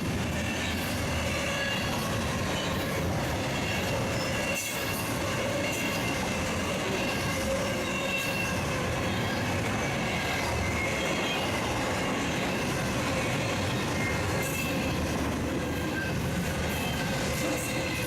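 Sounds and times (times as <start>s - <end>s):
train cars rumbling past: 0.0s - 18.0s
wheels squealing on rails: 0.0s - 18.0s.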